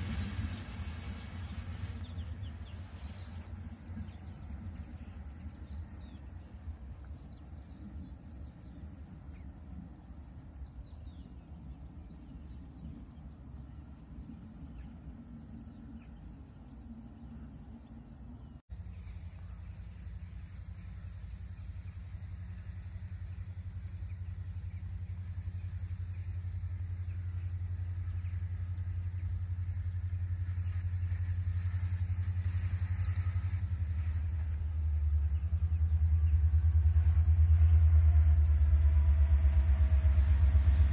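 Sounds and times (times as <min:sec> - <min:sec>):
low rumble: 0:00.0 - 0:40.9.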